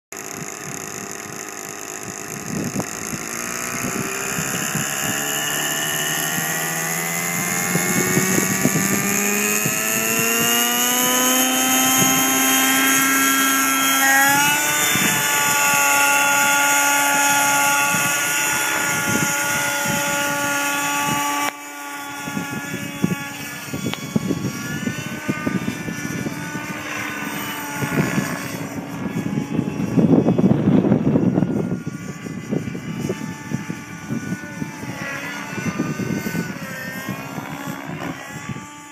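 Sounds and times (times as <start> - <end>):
model helicopter engine: 0.1 - 38.9.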